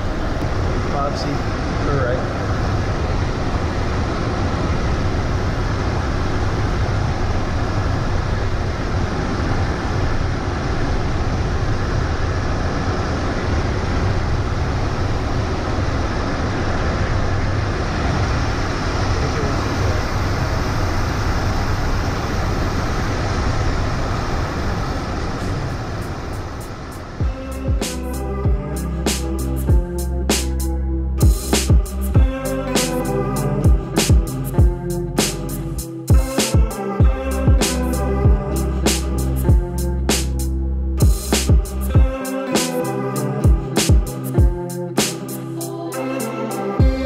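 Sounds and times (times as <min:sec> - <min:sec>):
jet cockpit airflow and engine noise: 0:00.0 - 0:42.8.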